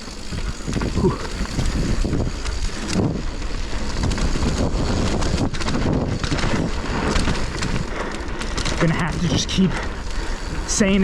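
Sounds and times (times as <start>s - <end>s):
bike clicks and rattles: 0.0s - 11.0s
tyres on dry dirt: 0.0s - 11.0s
wind rushing over microphone: 0.0s - 11.0s.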